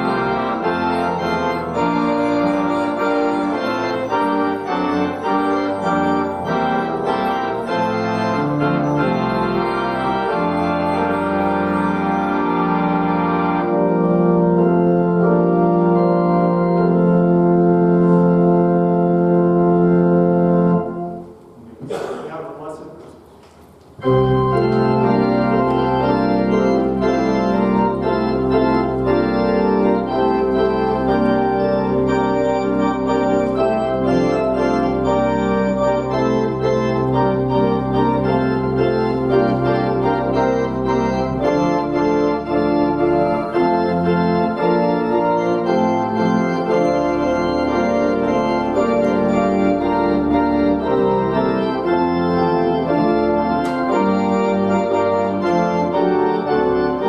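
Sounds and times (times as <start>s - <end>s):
organ playing chords: 0.0s - 57.0s.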